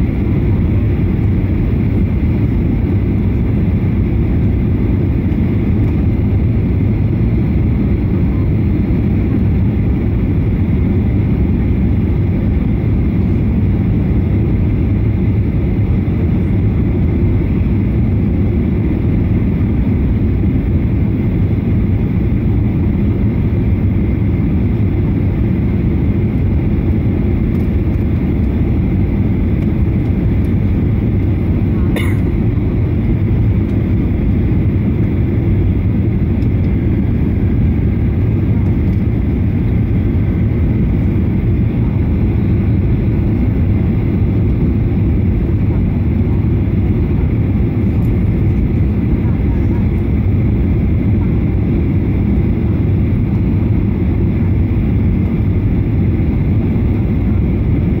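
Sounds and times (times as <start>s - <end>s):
airplane cabin roar: 0.0s - 58.0s.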